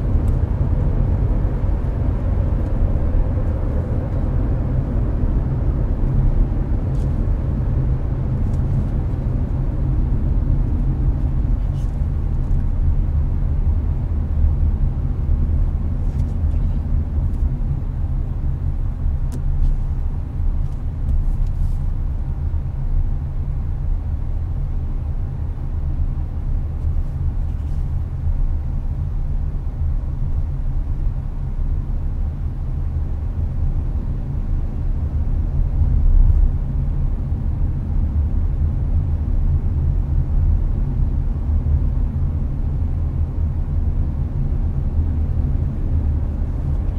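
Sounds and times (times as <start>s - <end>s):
air conditioner blowing: 0.0s - 46.9s
car road and engine rumble: 0.0s - 46.9s.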